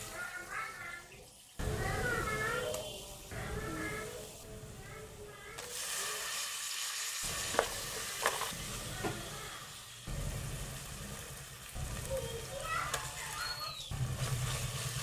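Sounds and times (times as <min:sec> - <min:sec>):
tomatoes sizzling in hot oil: 0:00.0 - 0:15.0.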